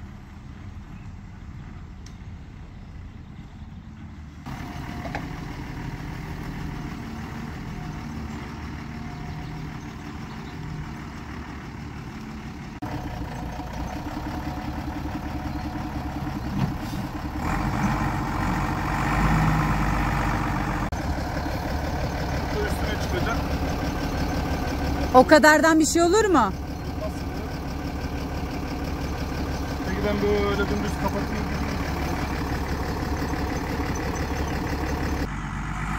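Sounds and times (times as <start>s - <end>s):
vehicle engine drone: 0.0s - 35.9s.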